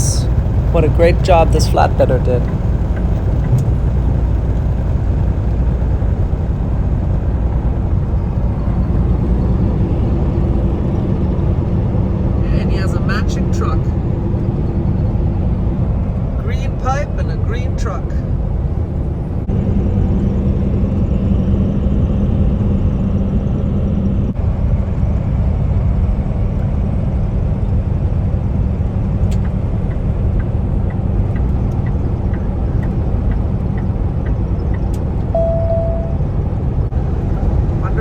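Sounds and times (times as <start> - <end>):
low hum: 0.0 - 13.0, 18.1 - 38.0
truck engine drone: 0.0 - 38.0.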